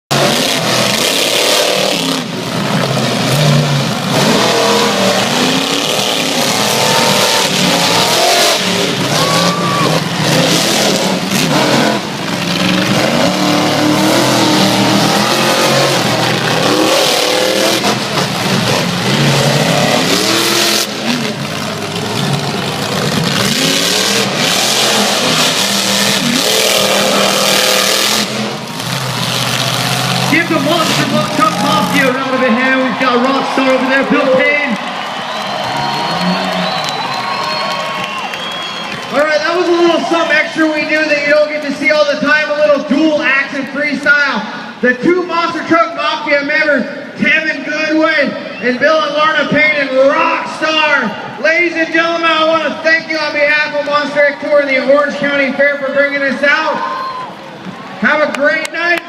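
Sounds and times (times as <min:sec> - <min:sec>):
monster truck engines revving: 0:00.0 - 0:59.0.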